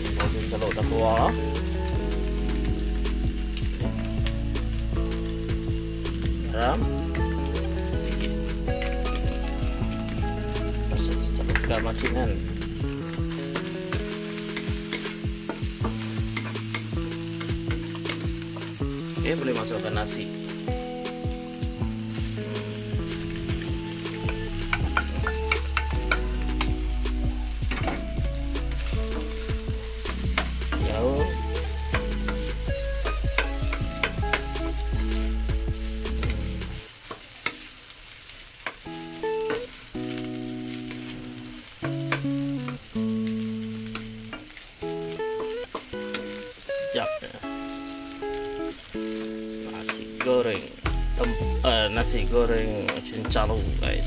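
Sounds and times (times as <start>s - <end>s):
background tune of held notes: 0.0s - 36.9s, 38.8s - 54.0s
rice sizzling in a wok: 0.0s - 54.0s.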